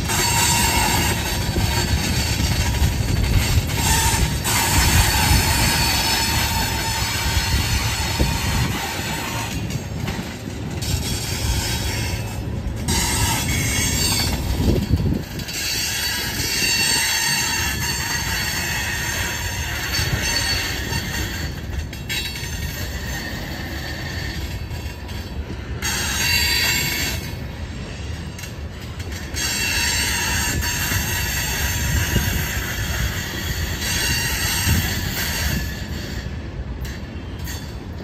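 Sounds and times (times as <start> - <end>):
steel wheels squealing: 0.0 - 38.0
train wheels rumbling on rail: 0.0 - 38.0.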